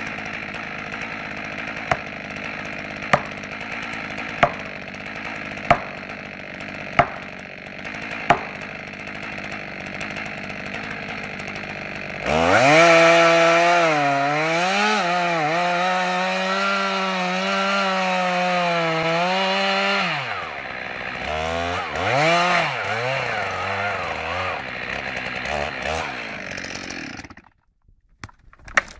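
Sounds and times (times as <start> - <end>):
chainsaw idling and revving: 0.0 - 27.6.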